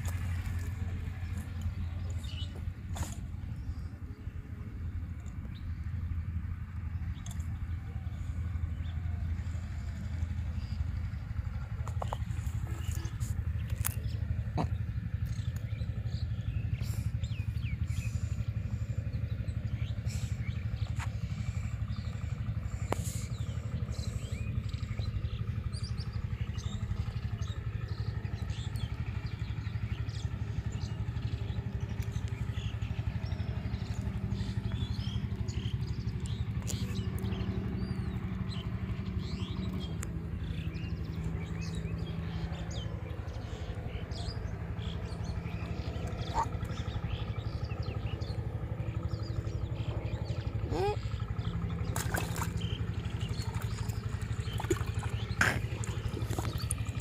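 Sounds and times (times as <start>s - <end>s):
motor engine running: 0.0s - 57.0s
small birds chirping: 0.0s - 57.0s.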